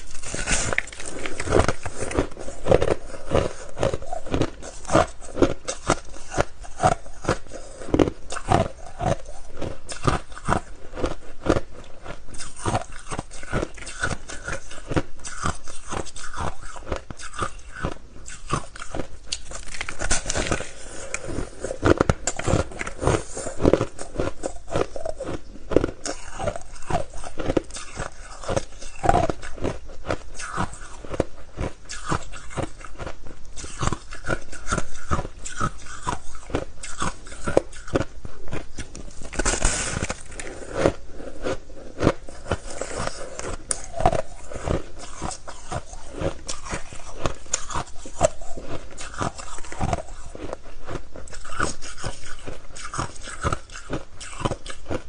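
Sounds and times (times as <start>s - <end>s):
crunching ice: 0.0s - 31.2s, 31.9s - 55.0s.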